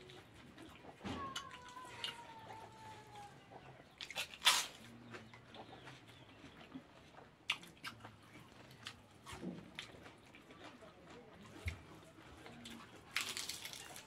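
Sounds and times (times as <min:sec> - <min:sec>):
person chewing and crunching food: 0:00.0 - 0:14.0.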